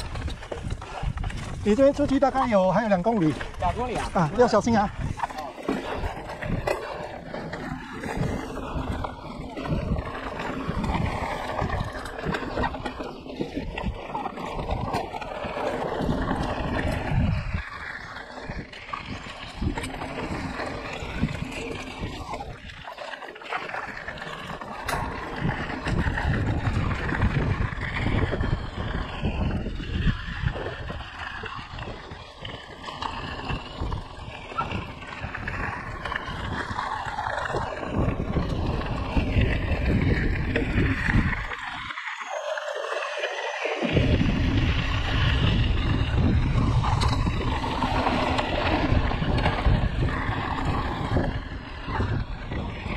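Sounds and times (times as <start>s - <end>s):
wind buffeting microphone: 0.0s - 42.4s, 43.8s - 52.9s
bike tyres rolling on dirt: 0.0s - 52.9s.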